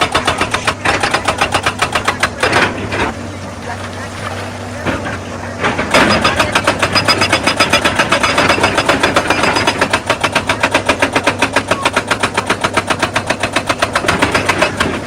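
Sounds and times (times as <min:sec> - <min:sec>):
hydraulic rock breaker hammering: 0:00.0 - 0:03.5, 0:04.2 - 0:15.0
diesel engine running: 0:00.0 - 0:15.0.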